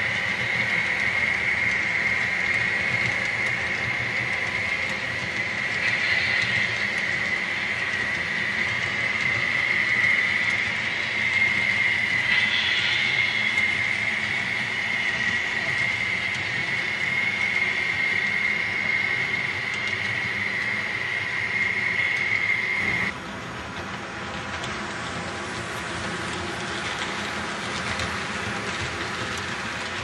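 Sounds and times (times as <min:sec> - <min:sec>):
model train rolling on track: 0:00.0 - 0:30.0.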